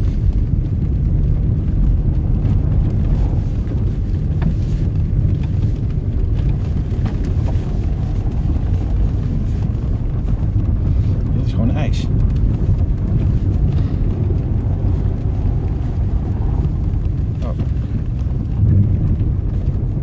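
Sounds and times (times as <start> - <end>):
engine and tyre rumble: 0.0 - 20.0.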